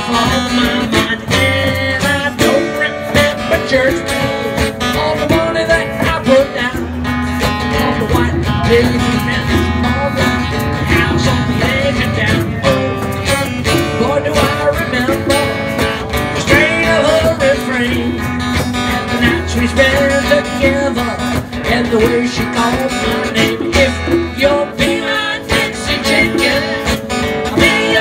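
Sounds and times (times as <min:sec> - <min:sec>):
hand drums: 0:00.0 - 0:28.0
strummed acoustic guitar: 0:00.0 - 0:28.0
bending lead melody: 0:04.0 - 0:28.0.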